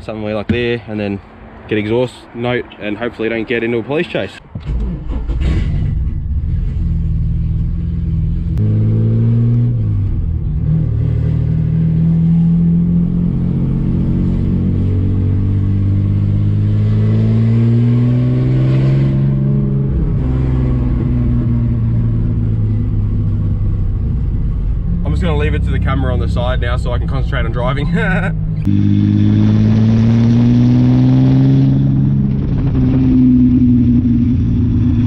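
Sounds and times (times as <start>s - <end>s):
car engine accelerating: 4.6s - 35.0s.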